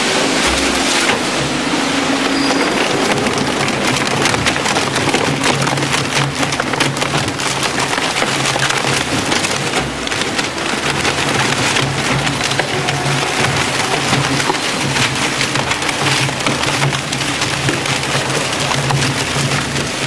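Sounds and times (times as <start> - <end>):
cardboard ripping in shredder: 0.0 - 20.0
low machine hum: 0.0 - 20.0.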